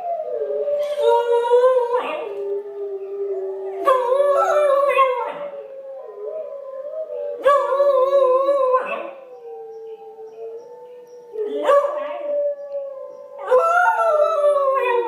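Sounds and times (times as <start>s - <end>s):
puppy howling: 0.0s - 15.0s
recorded wolf howls: 0.0s - 15.0s.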